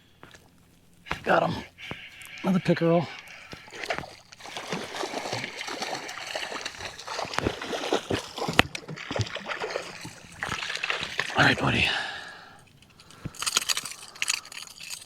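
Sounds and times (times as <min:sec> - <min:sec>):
fish splashing in water: 0:01.0 - 0:15.0.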